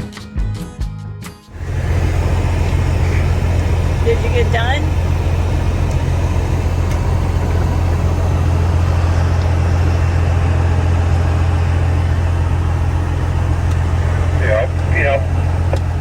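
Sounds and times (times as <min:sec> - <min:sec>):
engine droning: 0:01.5 - 0:16.0.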